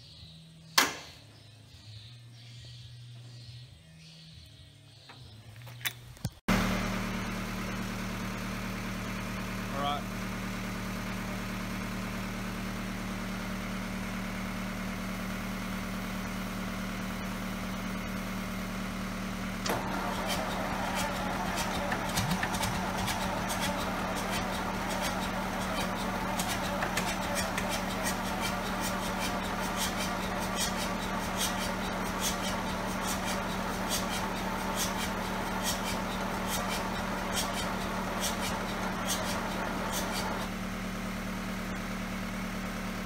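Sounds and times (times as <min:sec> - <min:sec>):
diesel engine idling: 0:06.5 - 0:43.0.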